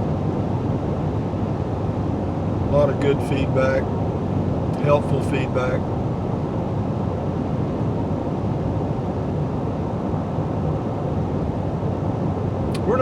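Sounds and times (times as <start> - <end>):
road and engine noise: 0.0 - 13.0.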